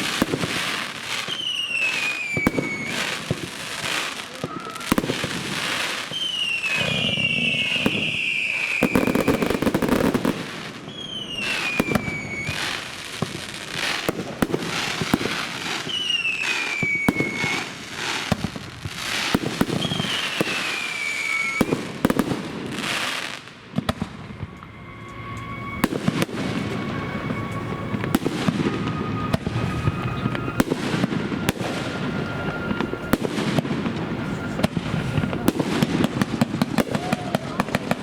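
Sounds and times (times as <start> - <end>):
falling firework whistle: 0.0 - 38.0
fireworks bangs and crackling: 0.0 - 38.0.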